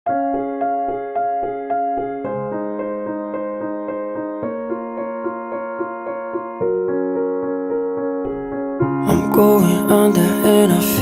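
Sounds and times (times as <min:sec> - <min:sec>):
piano playing repeated notes: 0:00.1 - 0:11.0.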